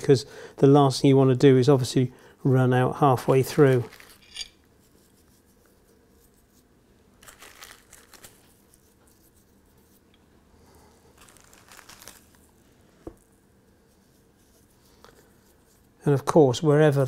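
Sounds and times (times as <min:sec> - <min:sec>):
faint rustling and crinkling: 0:03.3 - 0:17.0.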